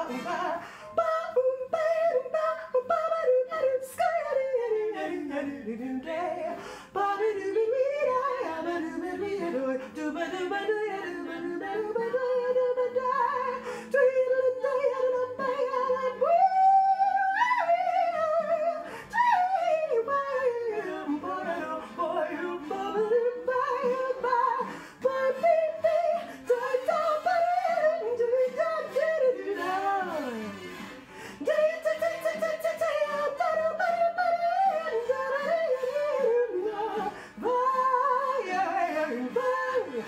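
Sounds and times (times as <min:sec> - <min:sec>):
woman singing without words: 0:00.0 - 0:40.0.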